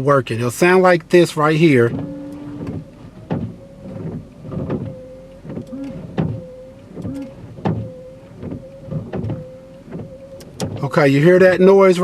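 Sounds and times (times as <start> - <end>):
windshield wiper motor: 0.6 - 12.0
wiper blade banging: 1.6 - 12.0.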